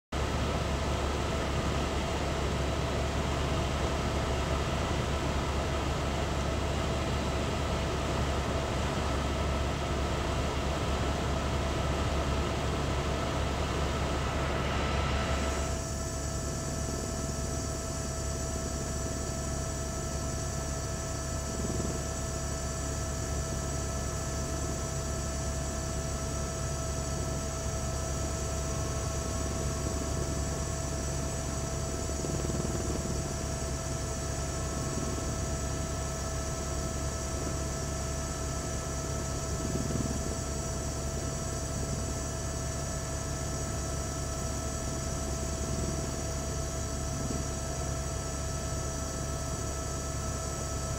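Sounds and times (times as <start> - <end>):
helicopter drone and hiss: 0.2 - 50.9.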